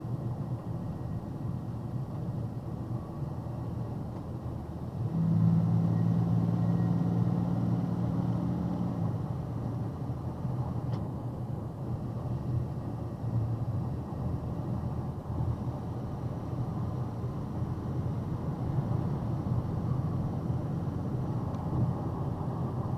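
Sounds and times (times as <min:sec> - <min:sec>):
car engine rumbling: 0:00.1 - 0:22.9.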